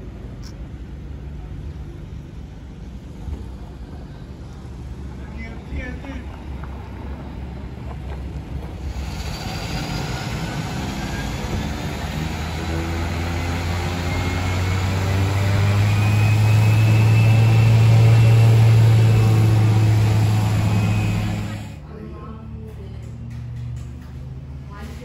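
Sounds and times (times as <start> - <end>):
turboprop aircraft running: 0.0 - 25.0.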